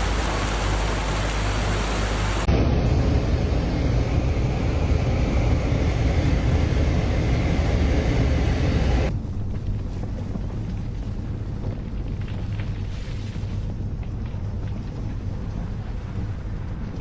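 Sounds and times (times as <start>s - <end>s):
mudflow rushing and rumbling: 0.0s - 17.0s.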